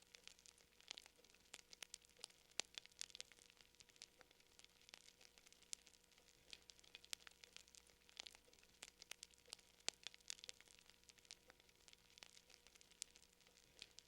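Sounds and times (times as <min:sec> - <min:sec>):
faint steady hum: 0:00.0 - 0:14.0
fire crackling: 0:00.0 - 0:14.0.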